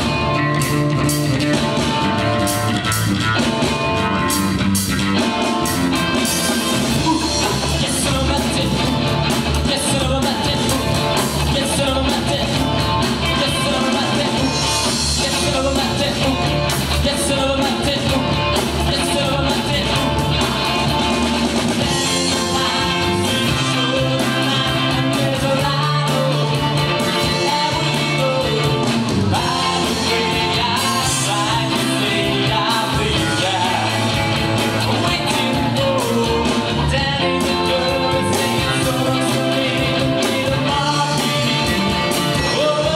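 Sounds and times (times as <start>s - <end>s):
guitar: 0.0s - 42.9s
steady drum beat: 0.0s - 42.9s
person singing: 6.4s - 20.8s, 21.8s - 42.9s.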